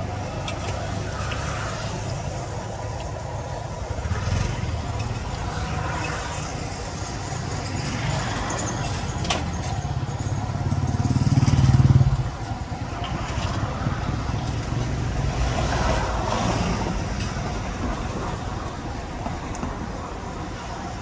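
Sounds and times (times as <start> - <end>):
street traffic: 0.0 - 21.0.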